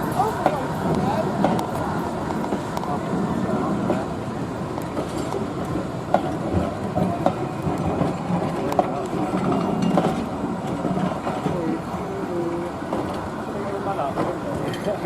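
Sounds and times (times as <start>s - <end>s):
faint voices: 0.0s - 15.0s
train running on rails: 0.0s - 15.0s.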